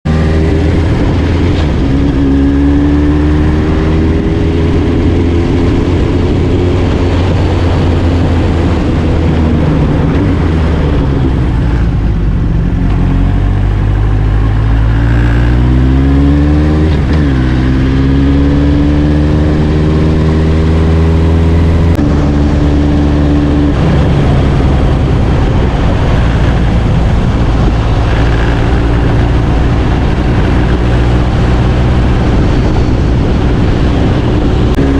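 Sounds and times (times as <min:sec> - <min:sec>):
motorcycle engines running: 0:00.0 - 0:34.9.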